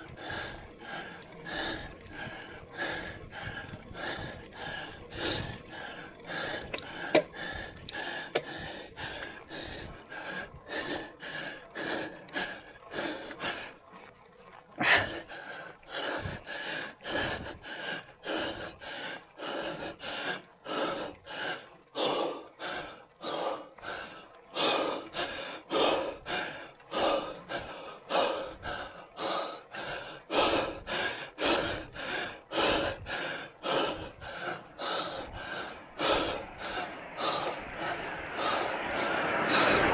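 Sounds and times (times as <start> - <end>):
person breathing hard: 0.0 - 14.0, 14.8 - 39.9.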